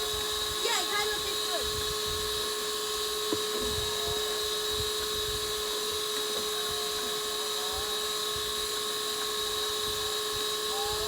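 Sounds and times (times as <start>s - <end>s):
small motor whining hum: 0.0s - 11.0s.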